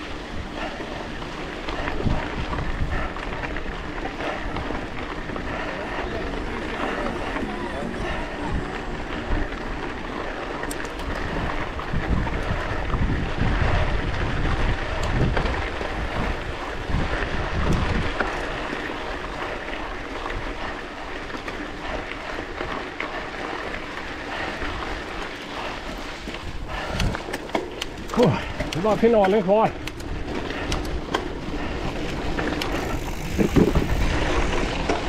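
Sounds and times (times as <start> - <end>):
tyres rolling on gravel: 0.0 - 35.0
wind buffeting microphone: 0.0 - 35.0.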